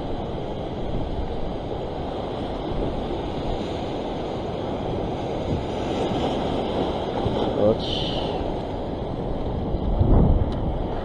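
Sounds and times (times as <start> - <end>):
ocean surf washing ashore: 0.0 - 11.0
wind rumbling on microphone: 0.0 - 11.0.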